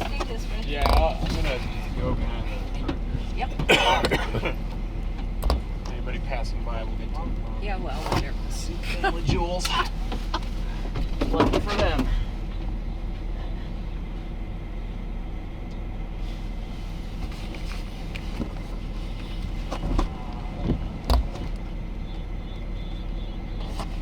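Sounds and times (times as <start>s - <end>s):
vehicle running with low hum: 0.0s - 24.0s.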